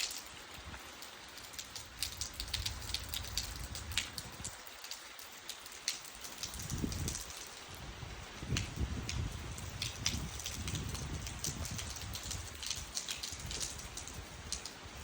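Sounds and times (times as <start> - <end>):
light rain: 0.0 - 15.0
raindrops ticking on hard surface: 0.0 - 15.0.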